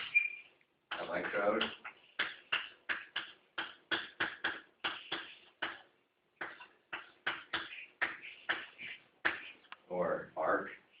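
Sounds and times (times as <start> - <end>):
sharp taps: 0.9 - 9.8.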